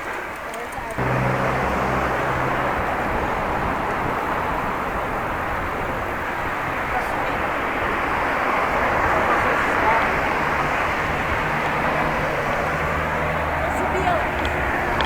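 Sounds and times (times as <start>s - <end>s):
wind rushing over microphone: 0.8s - 15.0s.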